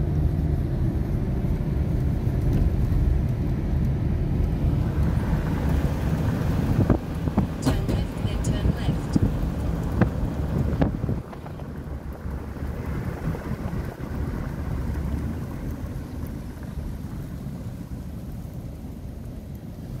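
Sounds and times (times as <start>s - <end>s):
road noise inside moving car: 0.0s - 20.0s
wind buffeting microphone: 0.3s - 20.0s.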